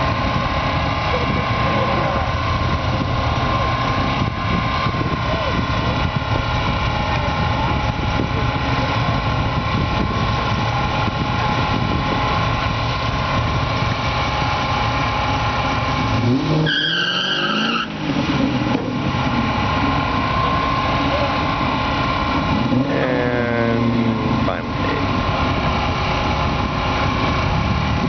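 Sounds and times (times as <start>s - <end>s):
engine revving with whine: 0.0s - 28.0s
engines idling: 0.0s - 28.0s.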